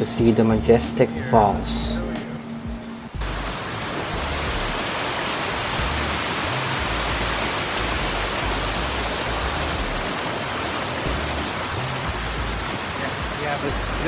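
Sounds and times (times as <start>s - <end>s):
waterfall rushing: 2.5s - 14.0s.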